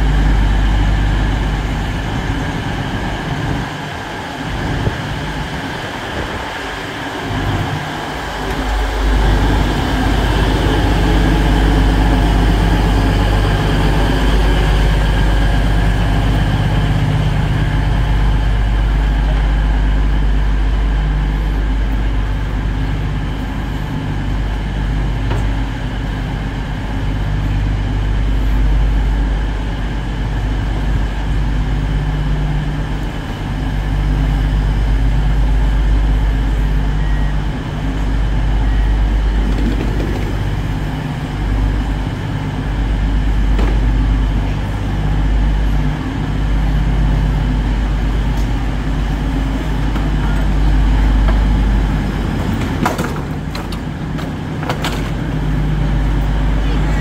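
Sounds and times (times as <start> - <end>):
train diesel engines idling: 0.0 - 57.0.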